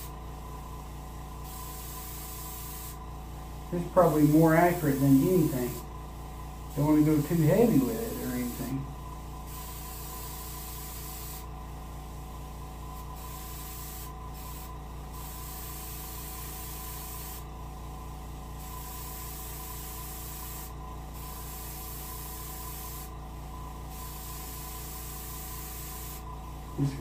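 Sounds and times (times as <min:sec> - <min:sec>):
airbrush spraying hiss: 0:00.0 - 0:17.6, 0:18.5 - 0:23.2, 0:23.8 - 0:27.0
steady low hum: 0:00.0 - 0:27.0.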